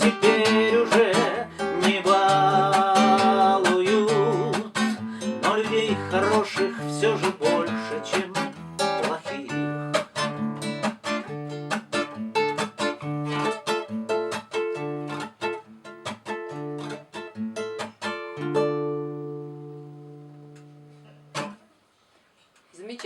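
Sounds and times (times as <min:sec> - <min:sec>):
acoustic guitar playing: 0:00.0 - 0:21.8.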